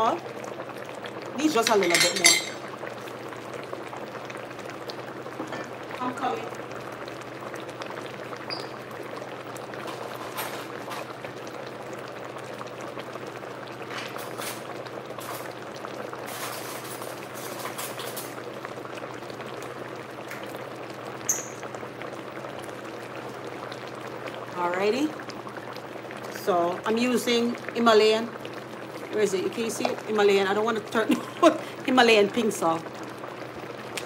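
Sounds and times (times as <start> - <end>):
curry bubbling in a pot: 0.0 - 34.0.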